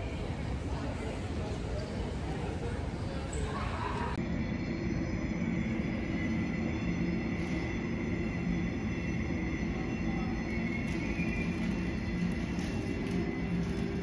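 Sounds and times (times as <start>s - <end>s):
jet turbine whine: 0.0s - 14.0s.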